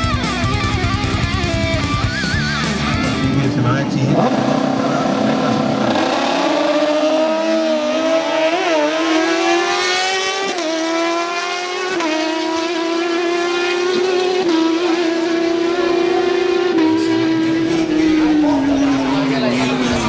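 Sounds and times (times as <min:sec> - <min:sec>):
motorcycle engines accelerating: 0:00.0 - 0:20.0.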